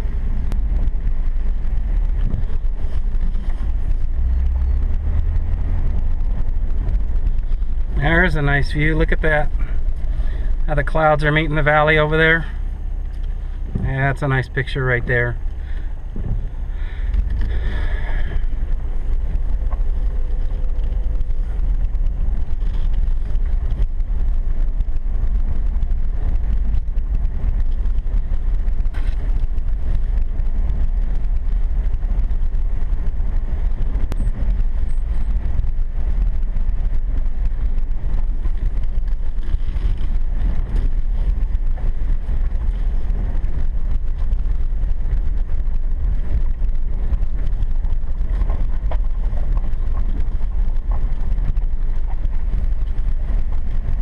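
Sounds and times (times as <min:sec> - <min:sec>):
engine and tyres rumbling: 0:00.0 - 0:54.0.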